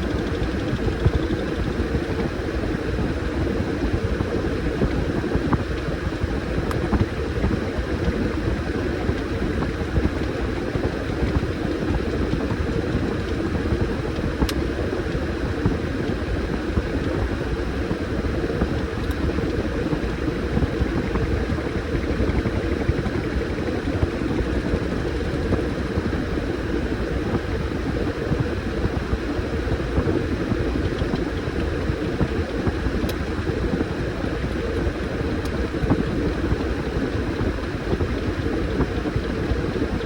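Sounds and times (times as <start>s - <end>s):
washing machine running: 0.0s - 40.0s.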